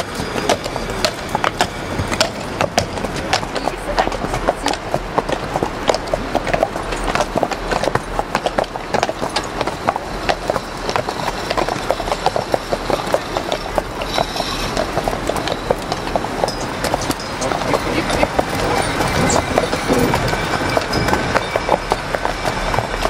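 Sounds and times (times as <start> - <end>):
horse hooves clip-clopping: 0.0 - 23.0
wind noise on microphone: 0.0 - 23.0.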